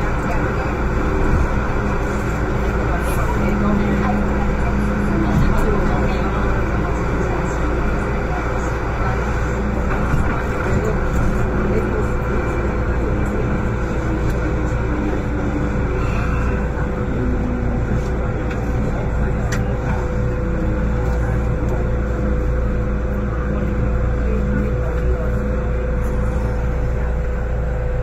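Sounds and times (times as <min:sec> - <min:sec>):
train running gear hum: 0:00.0 - 0:28.0
train wheels rumbling on rail: 0:00.0 - 0:28.0.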